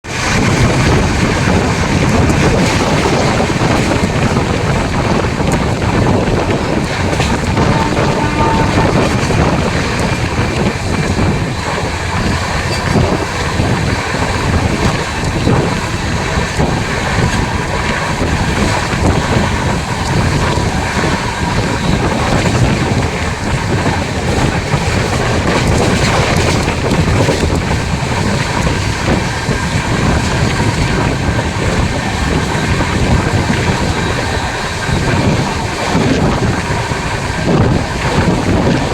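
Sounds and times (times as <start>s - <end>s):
fast train rumbling: 0.0s - 38.9s
wind buffeting microphone: 0.0s - 38.9s.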